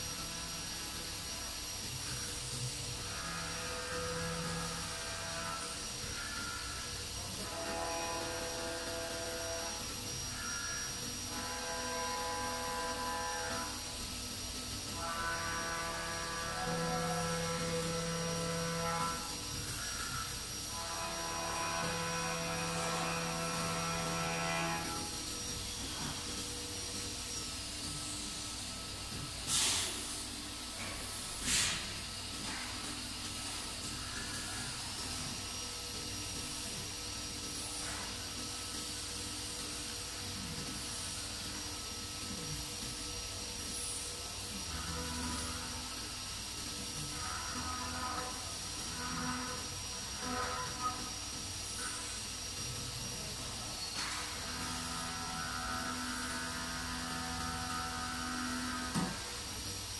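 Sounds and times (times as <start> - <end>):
compressed air hissing: 0.0 - 54.8
electric motor hum and whine: 0.0 - 59.9.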